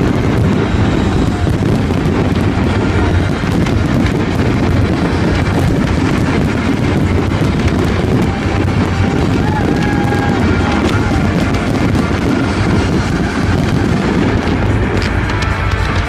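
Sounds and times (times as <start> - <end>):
fireworks booming: 0.0 - 16.0
fireworks crackling: 0.0 - 16.0.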